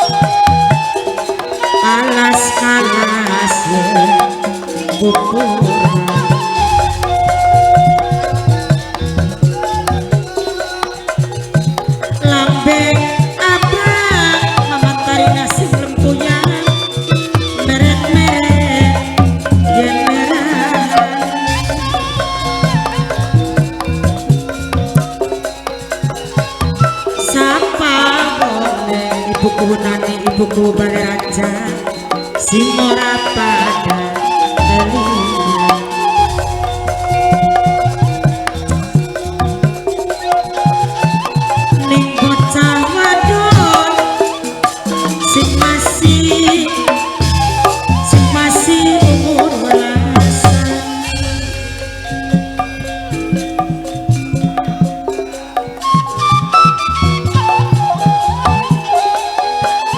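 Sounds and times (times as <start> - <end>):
hand drums beating quickly: 0.0 - 59.9
held melodic tones: 0.0 - 59.9.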